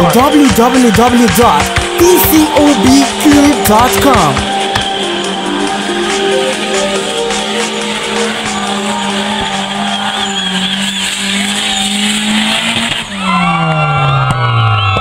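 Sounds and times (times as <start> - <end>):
car engine revving high: 0.0 - 14.9.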